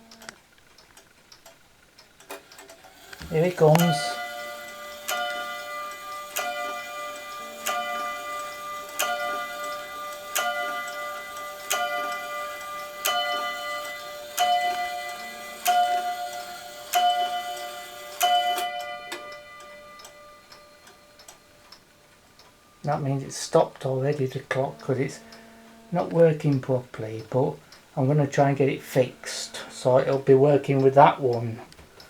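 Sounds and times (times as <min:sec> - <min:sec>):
faint clock ticking: 0:00.0 - 0:32.0
clock striking the hour: 0:02.0 - 0:31.7.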